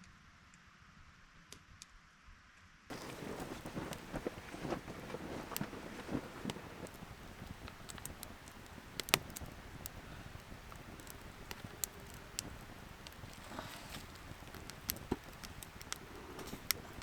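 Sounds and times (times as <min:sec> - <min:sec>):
campfire crackling: 0:02.9 - 0:17.0.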